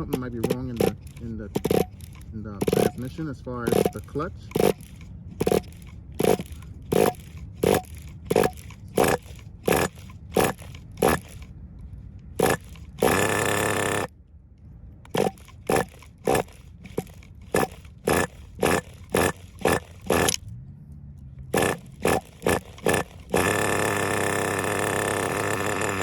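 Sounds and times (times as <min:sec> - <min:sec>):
model engine revving in bursts: 0:00.0 - 0:11.5, 0:12.4 - 0:14.1, 0:15.1 - 0:20.6, 0:21.4 - 0:26.0.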